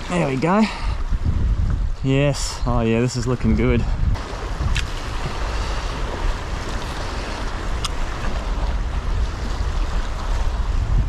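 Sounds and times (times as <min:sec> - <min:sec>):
sea waves washing against rocks: 0:00.0 - 0:11.0
wind buffeting microphone: 0:00.0 - 0:11.0.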